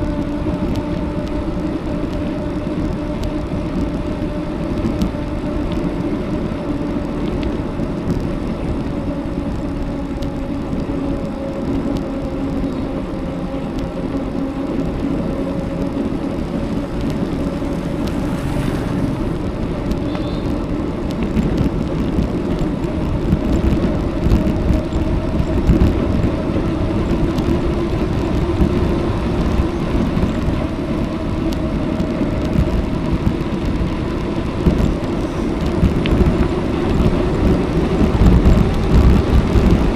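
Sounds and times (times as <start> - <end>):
bicycle tyres on road: 0.0 - 39.9
wind buffeting microphone: 0.0 - 39.9.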